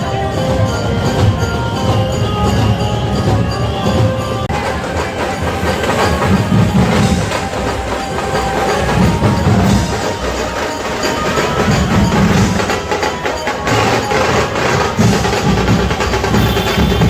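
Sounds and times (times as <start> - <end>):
percussion-heavy processional music: 0.0 - 17.0.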